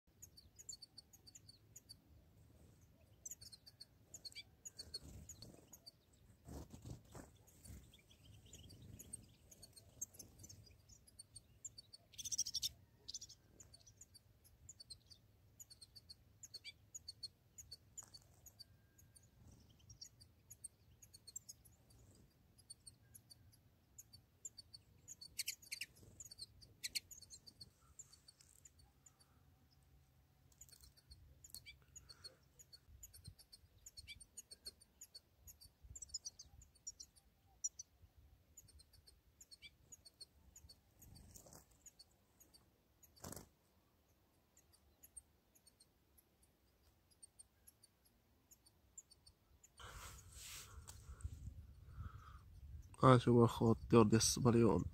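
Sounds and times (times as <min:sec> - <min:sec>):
goldfinches chirping: 0:00.1 - 0:54.9.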